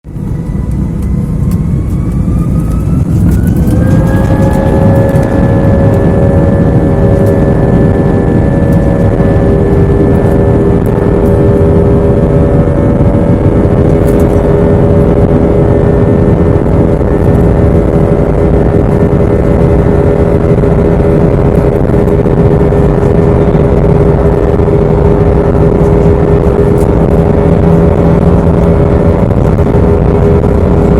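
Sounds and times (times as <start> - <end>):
jet engines roaring: 0.0 - 30.9.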